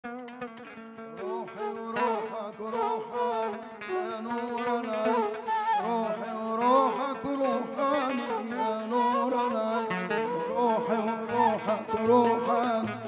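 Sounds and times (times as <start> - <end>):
man singing melismatic line: 1.2 - 13.0.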